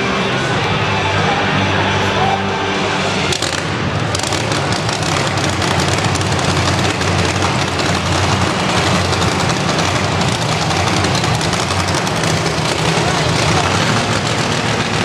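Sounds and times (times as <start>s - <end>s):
truck engines rumbling: 0.0s - 15.0s.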